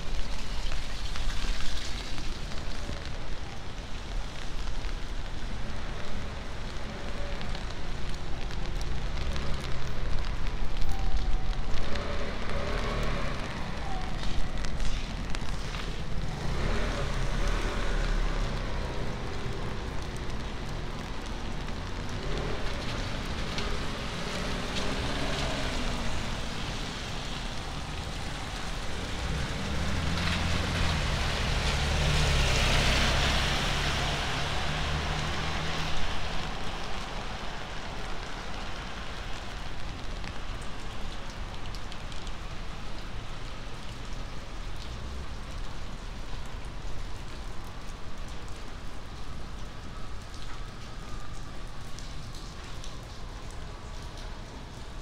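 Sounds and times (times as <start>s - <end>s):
tyres hissing on wet road: 0.0s - 50.1s
rain falling on street: 0.0s - 55.0s.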